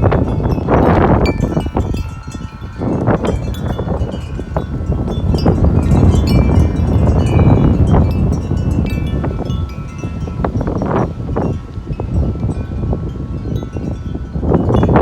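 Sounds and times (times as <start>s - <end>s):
wind chimes clanging: 0.0s - 15.0s
wind rumble on microphone: 0.0s - 15.0s.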